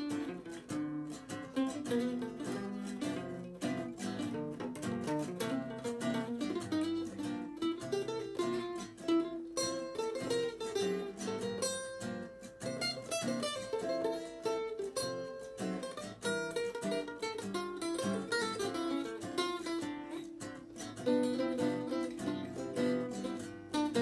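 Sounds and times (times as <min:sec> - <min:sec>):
acoustic guitars playing: 0:00.0 - 0:24.0.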